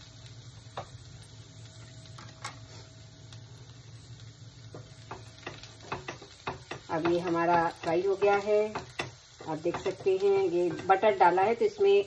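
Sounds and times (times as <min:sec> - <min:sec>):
food sizzling in butter: 0:00.0 - 0:12.0.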